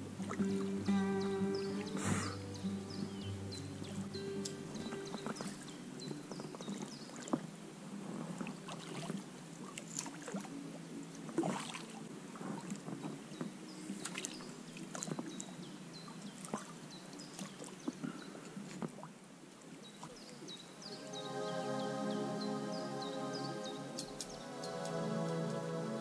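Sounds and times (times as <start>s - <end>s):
water splashing and lapping: 0.0s - 26.0s.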